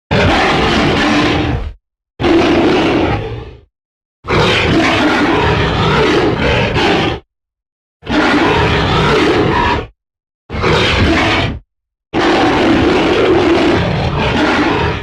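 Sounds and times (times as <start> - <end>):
monster roars: 0.1 - 3.7, 4.3 - 7.2, 8.0 - 11.6, 12.2 - 15.0.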